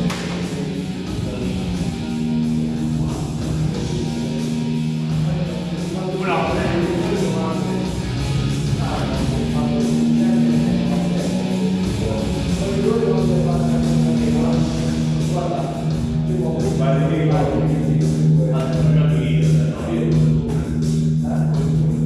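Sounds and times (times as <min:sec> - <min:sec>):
distorted electric guitar music: 0:00.0 - 0:22.0.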